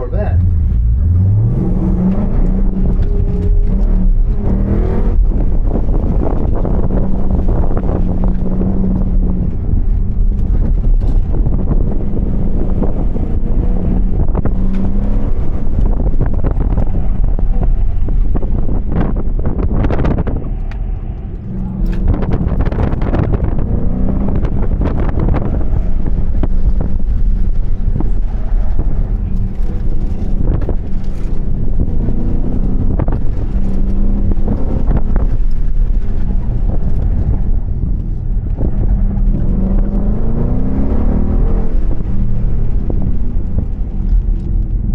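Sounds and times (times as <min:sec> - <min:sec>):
car engine under throttle: 0:00.0 - 0:44.9
wind buffeting microphone: 0:00.2 - 0:44.9.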